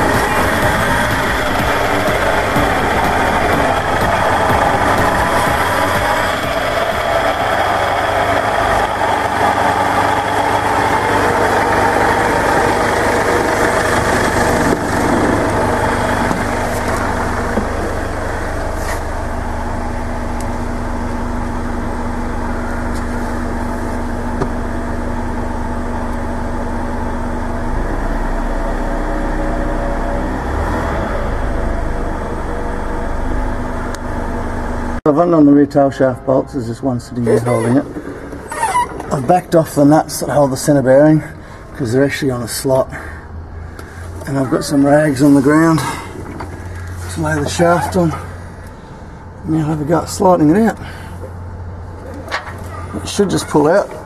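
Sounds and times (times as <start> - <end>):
driveline drone: 0.0 - 54.0.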